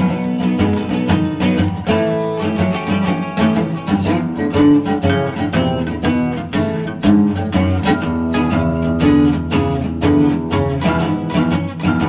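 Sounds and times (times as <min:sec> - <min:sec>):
acoustic blues guitar music: 0:00.0 - 0:12.0.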